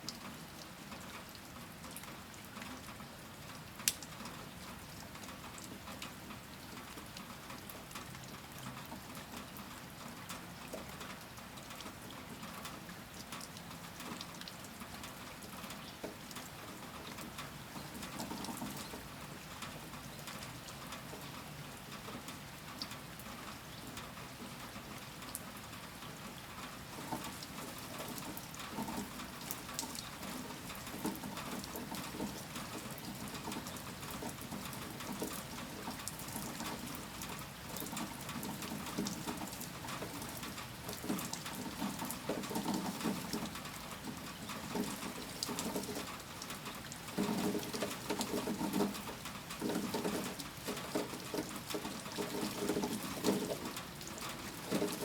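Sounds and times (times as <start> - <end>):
raindrops ticking on surfaces: 0.0 - 55.0.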